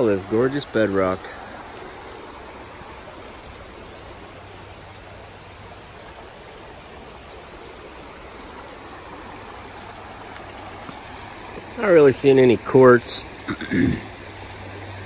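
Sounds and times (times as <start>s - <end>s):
creek water rippling over rock: 0.0s - 15.0s.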